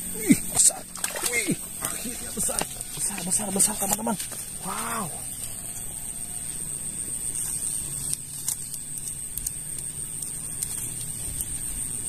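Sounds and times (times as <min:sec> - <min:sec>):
grass rustling: 0:00.0 - 0:12.0
steady high-pitched whine: 0:00.0 - 0:12.0.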